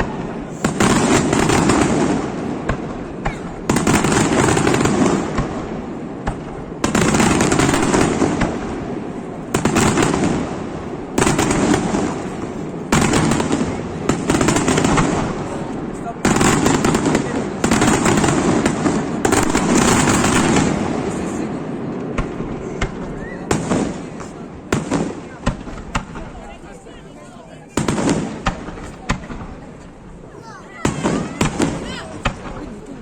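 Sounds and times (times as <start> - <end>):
fireworks bursting: 0.0 - 26.9, 27.7 - 33.0
fireworks crackling: 0.0 - 33.0.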